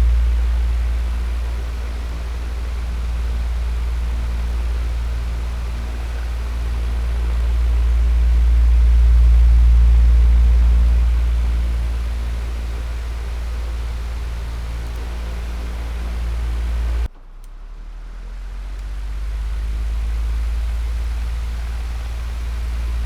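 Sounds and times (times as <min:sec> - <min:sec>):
electric fan running: 0:00.0 - 0:17.1, 0:18.4 - 0:23.0.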